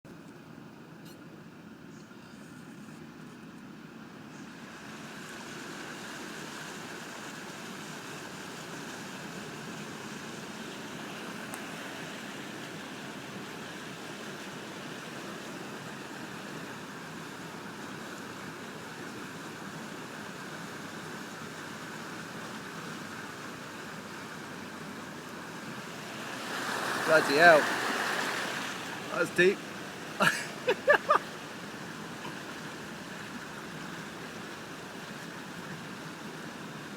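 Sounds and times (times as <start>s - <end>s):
floodwater rushing: 4.5s - 36.9s.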